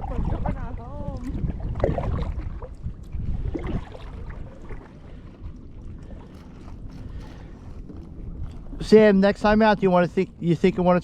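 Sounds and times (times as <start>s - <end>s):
paddle in water: 0.0s - 11.0s
wind rumble on microphone: 0.0s - 11.0s.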